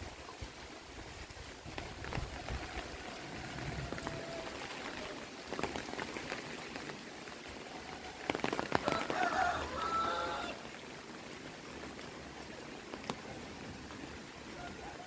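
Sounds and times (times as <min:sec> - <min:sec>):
heavy rain falling: 0:00.0 - 0:15.0
raindrops ticking on surfaces: 0:00.0 - 0:15.0.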